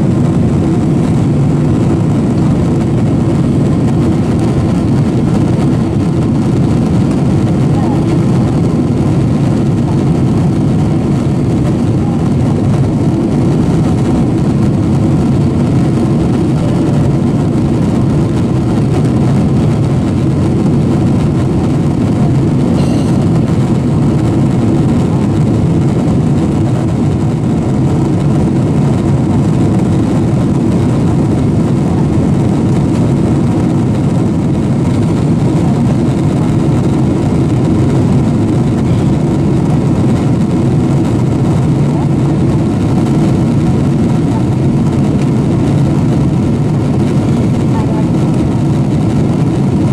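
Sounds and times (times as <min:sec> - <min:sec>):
airliner cabin noise: 0:00.0 - 0:49.9.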